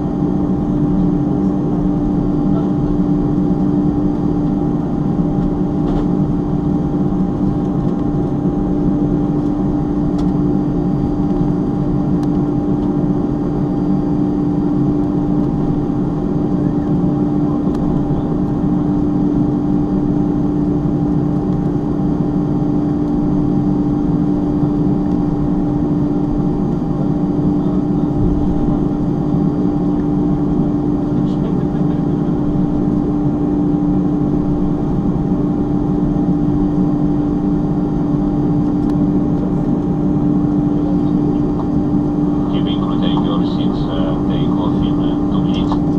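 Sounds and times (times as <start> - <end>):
aircraft cabin engine drone: 0.0 - 45.9.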